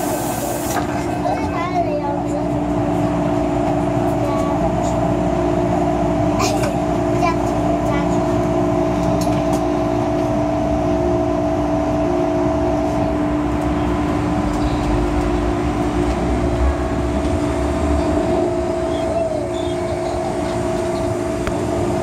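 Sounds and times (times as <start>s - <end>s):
rumble of wheels on rail: 0.0s - 22.0s
train traction motor whine: 1.9s - 22.0s.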